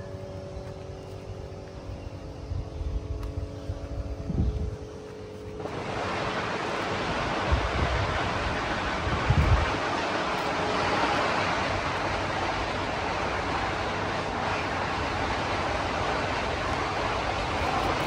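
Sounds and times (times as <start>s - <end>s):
faint steady hum: 0.0s - 18.0s
steady hiss: 0.0s - 18.0s
wind rumbling on microphone: 0.0s - 18.0s.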